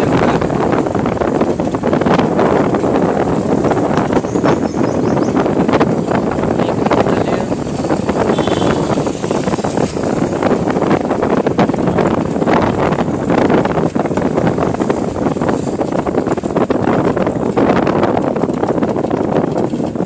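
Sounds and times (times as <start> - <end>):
road traffic: 0.0 - 20.0
wind buffeting microphone: 0.0 - 20.0.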